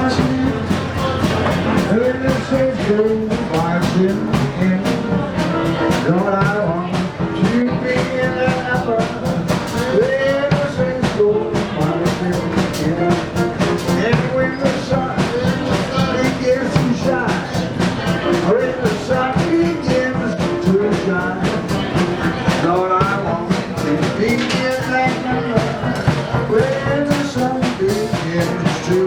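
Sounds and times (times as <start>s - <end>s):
brass melody: 0.0s - 29.0s
jazz band playing: 0.0s - 29.0s
steady drum beat: 0.0s - 29.0s.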